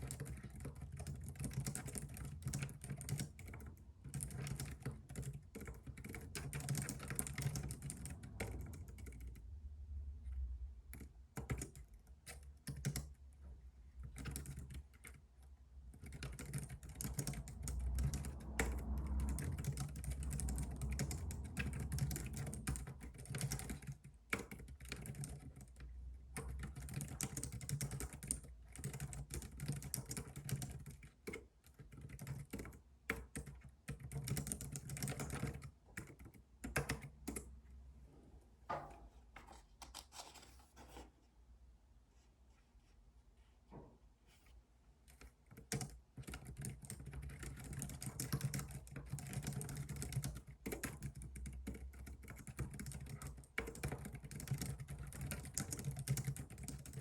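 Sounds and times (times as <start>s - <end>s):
typing on computer keyboard: 0.0s - 9.6s, 10.2s - 37.5s, 45.0s - 57.0s.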